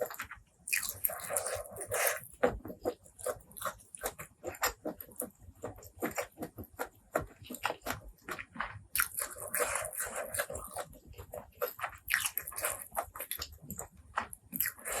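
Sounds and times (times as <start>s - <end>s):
chewing with wet mouth clicks: 0.0s - 15.0s.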